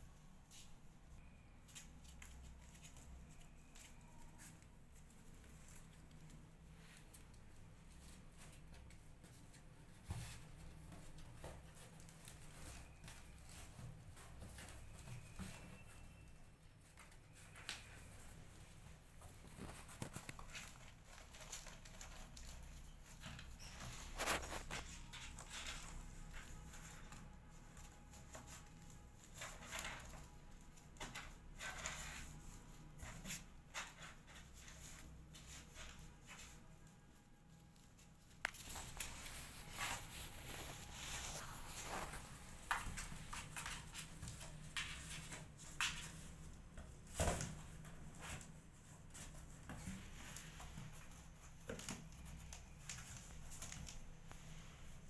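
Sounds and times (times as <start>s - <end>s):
kittens scratching on cardboard: 1.7s - 55.0s.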